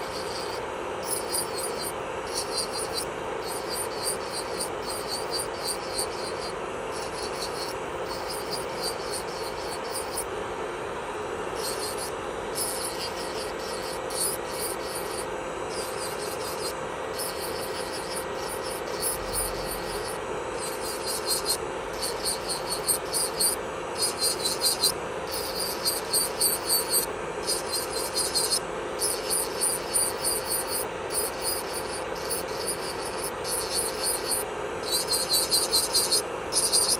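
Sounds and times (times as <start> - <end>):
drill bit grinding nail: 0.0 - 10.3, 11.5 - 36.9
electric nail drill whining: 0.0 - 10.3, 11.5 - 36.9.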